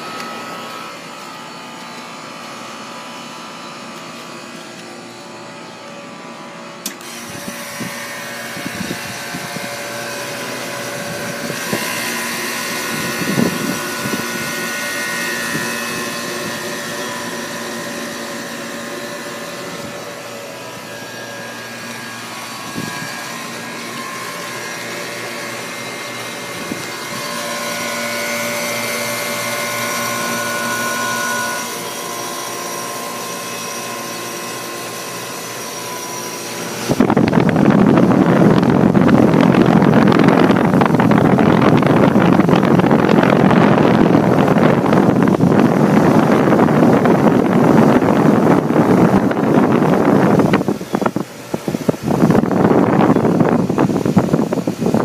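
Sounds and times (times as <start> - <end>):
compressor humming: 0.0 - 55.0
condenser fan whirring: 0.0 - 55.0.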